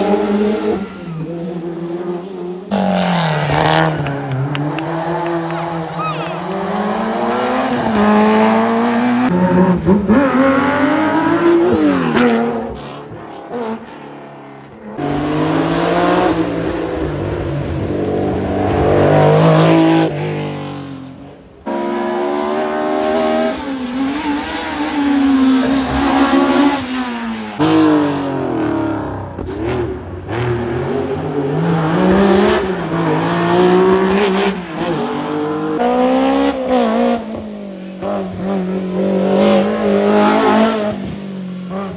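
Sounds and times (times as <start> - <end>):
rally car engines at full throttle: 0.0 - 41.9.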